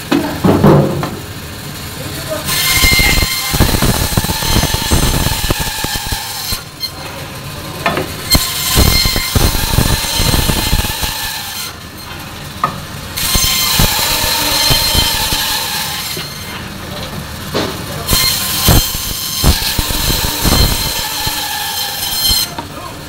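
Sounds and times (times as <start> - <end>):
band saw cutting frozen fish: 1.8 - 23.0.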